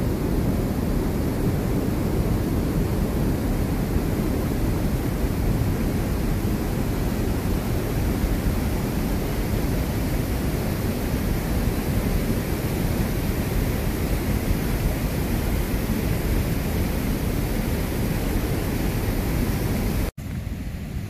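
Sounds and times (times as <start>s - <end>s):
forest stream rushing: 0.0s - 20.8s.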